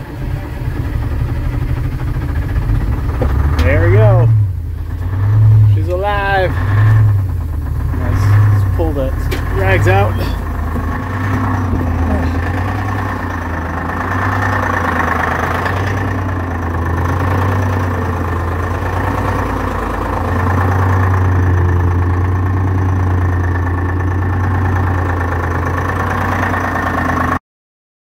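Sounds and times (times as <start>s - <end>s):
diesel engine idling: 0.0s - 27.4s.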